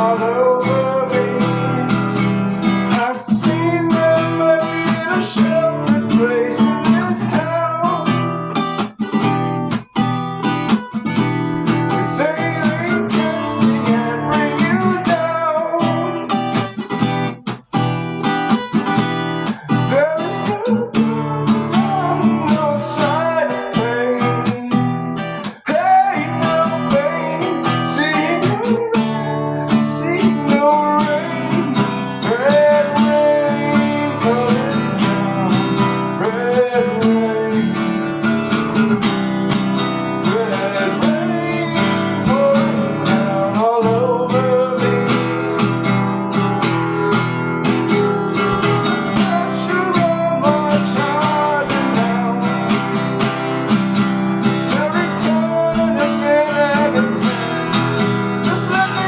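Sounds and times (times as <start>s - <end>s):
melodic vocal line: 0.0s - 59.0s
strummed acoustic guitar: 0.0s - 59.0s.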